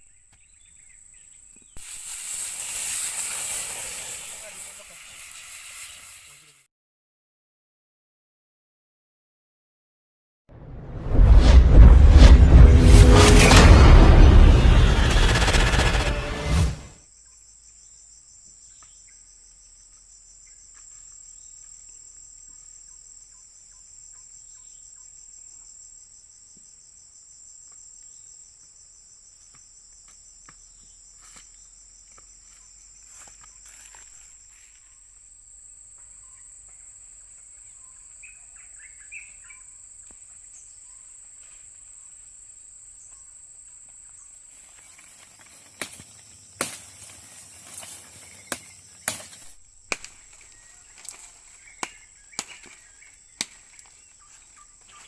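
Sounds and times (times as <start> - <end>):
insects trilling: 0.0 - 6.6, 17.1 - 55.0.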